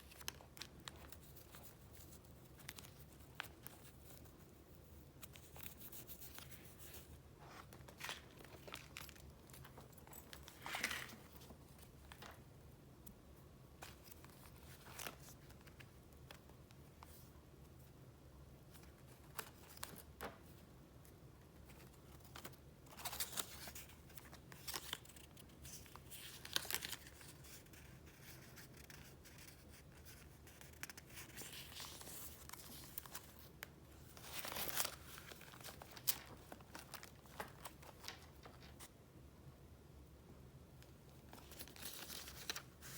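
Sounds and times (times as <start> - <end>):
paper rustling: 0.0 - 12.5, 13.8 - 17.3, 21.6 - 38.9, 41.3 - 42.9.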